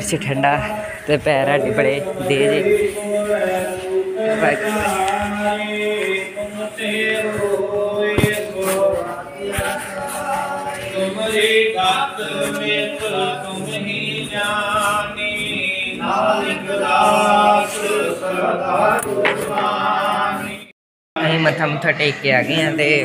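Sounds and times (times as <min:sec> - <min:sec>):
voices singing hymns: 0:00.0 - 0:20.7.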